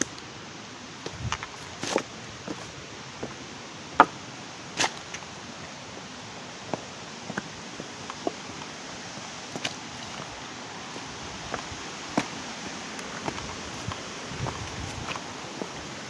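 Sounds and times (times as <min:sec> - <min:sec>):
steady hiss: 0:00.0 - 0:16.0
footsteps on bush trail: 0:00.9 - 0:16.0.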